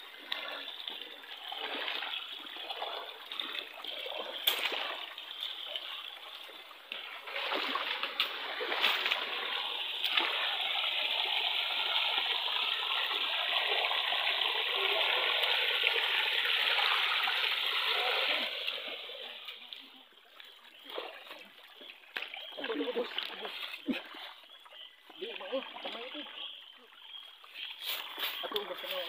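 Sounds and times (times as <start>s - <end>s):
feet wading through water: 0.0s - 13.6s, 16.4s - 29.0s
rushing stream water: 0.0s - 29.0s.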